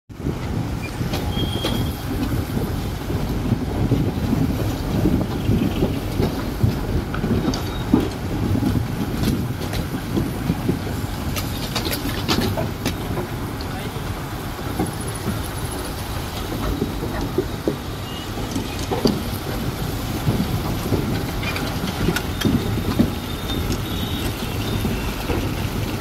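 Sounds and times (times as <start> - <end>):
vehicle rumble inside cabin: 0.1 - 26.0
faint clicks and rattles: 0.3 - 26.0.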